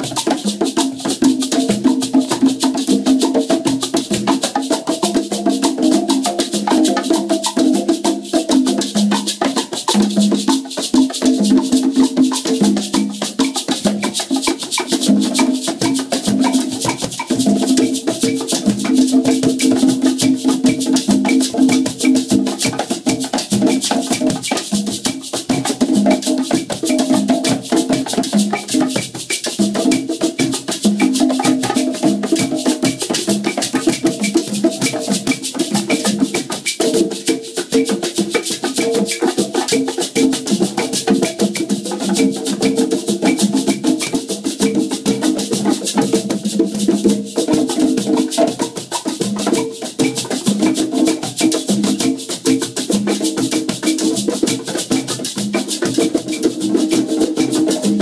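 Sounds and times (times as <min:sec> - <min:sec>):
conga drums playing: 0:00.0 - 0:58.0.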